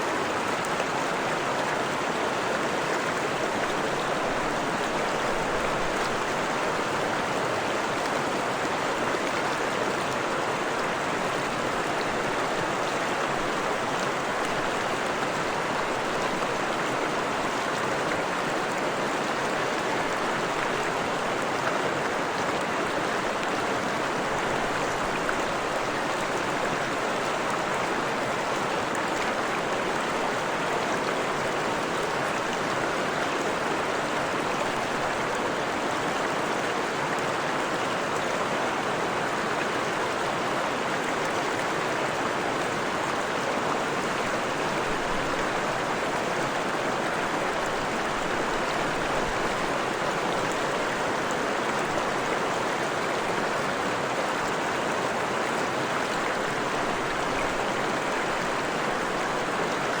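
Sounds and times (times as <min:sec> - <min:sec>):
stream flowing over rocks: 0:00.0 - 1:00.0.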